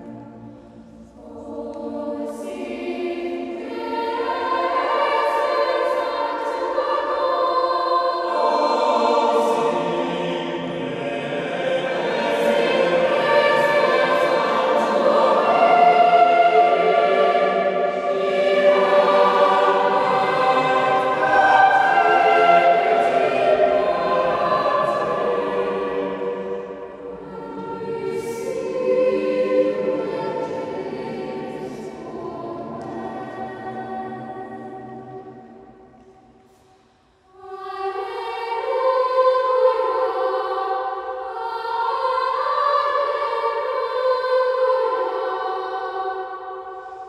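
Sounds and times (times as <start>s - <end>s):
mixed choir singing unaccompanied: 0.0s - 36.3s, 37.3s - 47.0s.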